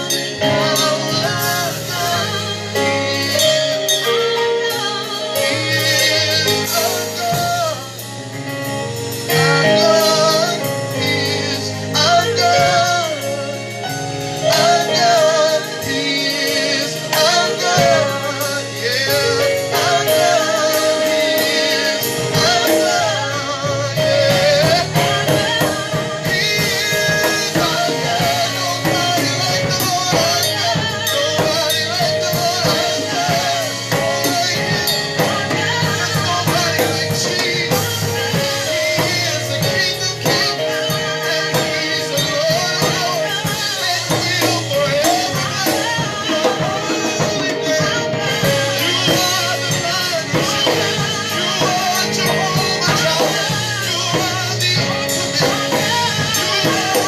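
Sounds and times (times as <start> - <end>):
drum kit: 0.0 - 57.0
person singing gospel song: 0.0 - 57.0.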